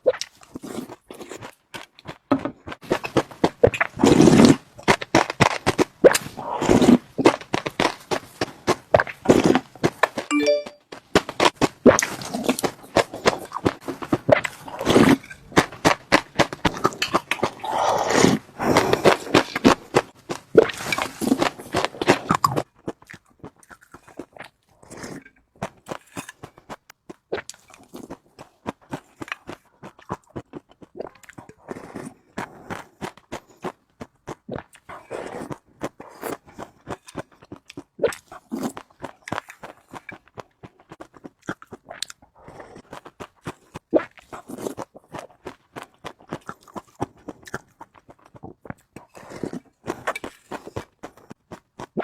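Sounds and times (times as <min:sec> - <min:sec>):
person eating crunchy food: 0:00.0 - 0:10.6, 0:11.2 - 0:52.0
wet chewing clicks: 0:00.0 - 0:10.6, 0:11.2 - 0:52.0.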